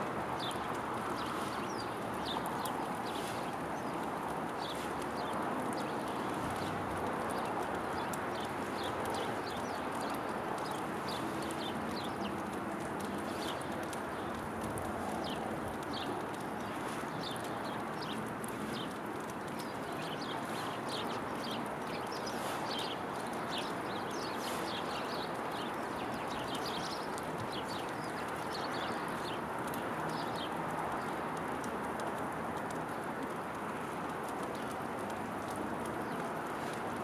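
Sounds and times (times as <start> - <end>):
small birds chirping: 0.1 - 37.0.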